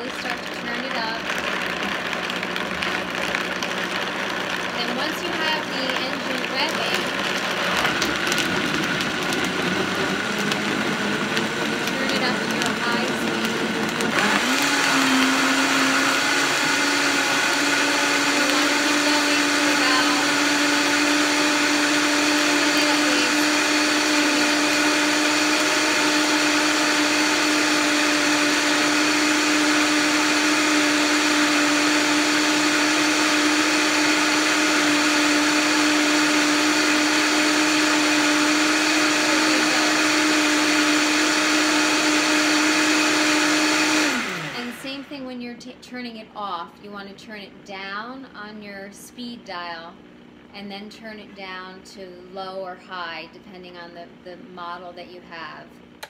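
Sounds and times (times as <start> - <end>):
blender whining: 0.0 - 45.8.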